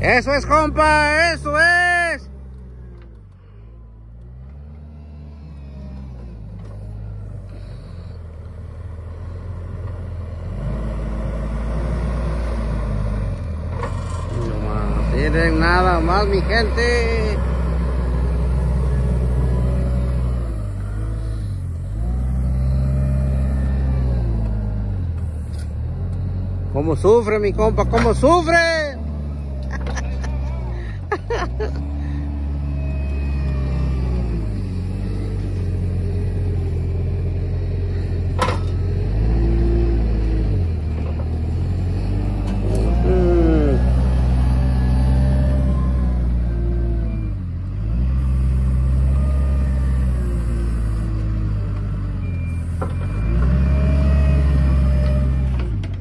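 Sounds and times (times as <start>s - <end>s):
wheel loader engine revving: 0.0s - 56.0s.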